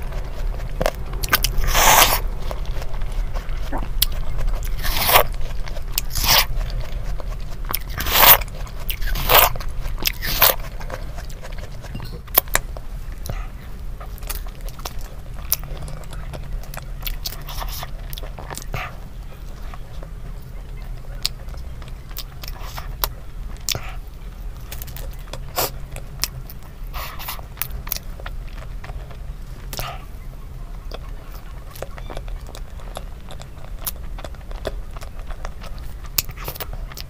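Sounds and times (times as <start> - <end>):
steady low hum: 0.0 - 37.0
wet chewing: 0.0 - 37.0.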